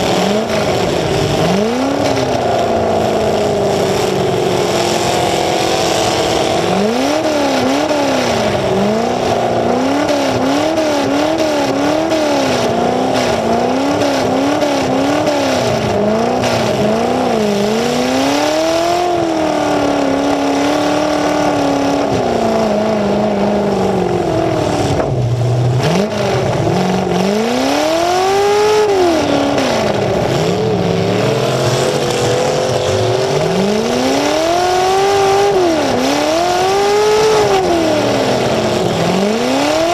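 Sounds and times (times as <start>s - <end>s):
car engine revving loud: 0.0s - 39.9s.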